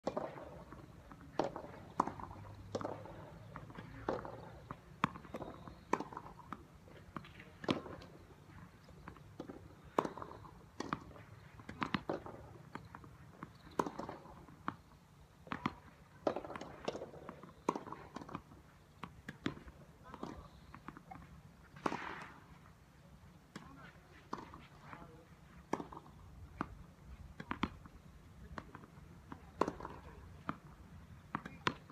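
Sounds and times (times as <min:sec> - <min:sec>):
tennis balls bouncing on court: 0:00.0 - 0:31.9
tennis balls struck by rackets: 0:00.0 - 0:31.9.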